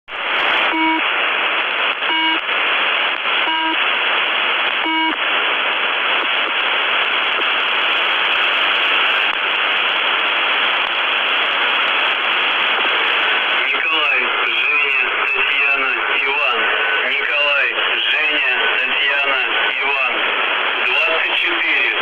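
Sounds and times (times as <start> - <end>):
radio static hiss: 0.1 - 22.0.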